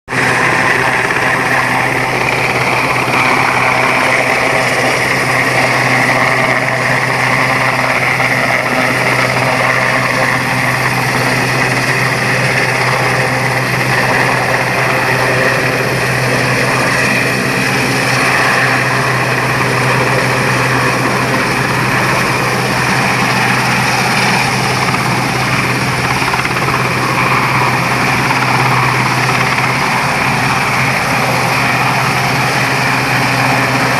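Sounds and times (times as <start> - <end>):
helicopter hovering with high whine: 0.1 - 33.9.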